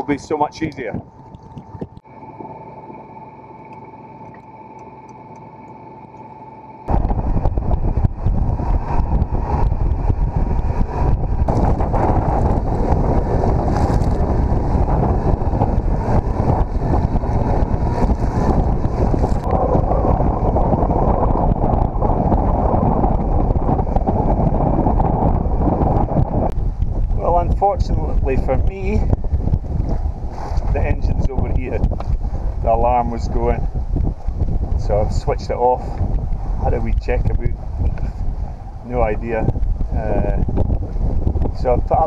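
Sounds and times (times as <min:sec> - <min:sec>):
wind buffeting microphone: 0:00.0 - 0:02.1, 0:06.9 - 0:42.0
water rushing along hull: 0:06.9 - 0:42.0.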